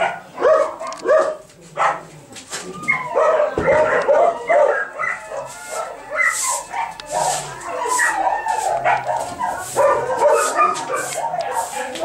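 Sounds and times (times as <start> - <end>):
many dogs barking and yelping: 0.0 - 12.0.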